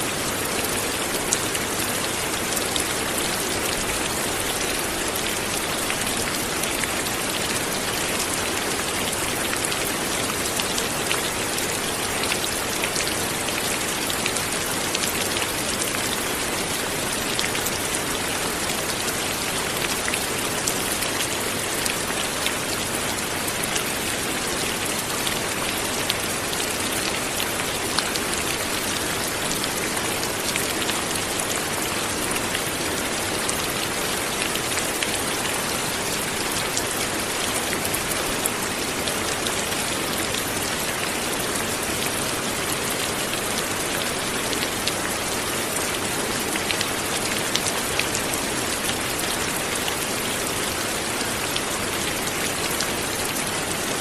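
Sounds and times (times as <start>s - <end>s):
light rain pattering: 0.0s - 54.0s.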